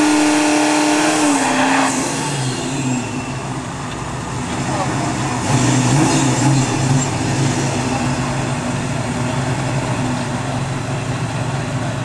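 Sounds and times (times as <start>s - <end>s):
car engine revving high: 0.0s - 3.6s, 4.4s - 11.0s.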